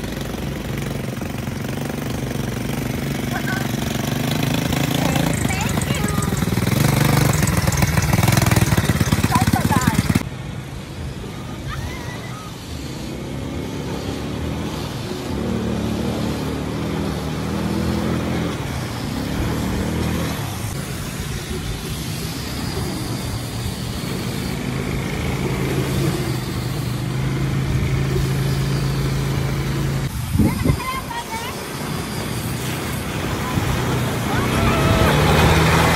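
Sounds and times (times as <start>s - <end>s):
atv engine revving: 0.0s - 10.3s, 12.7s - 35.9s.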